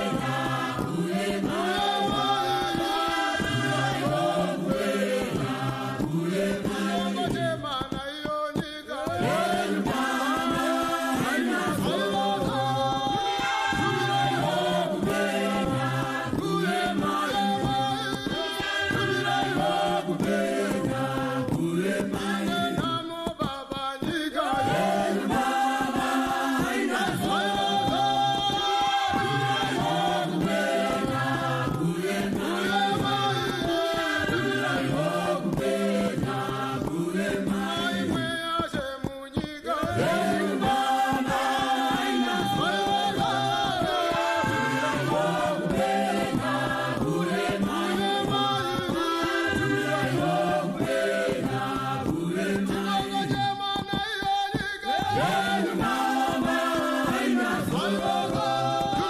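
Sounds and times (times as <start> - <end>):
group singing gospel chant: 0.0 - 59.0.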